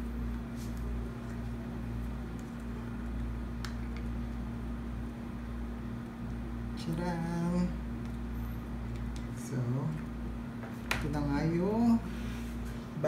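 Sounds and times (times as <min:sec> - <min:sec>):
low mechanical room hum: 0:00.0 - 0:13.0.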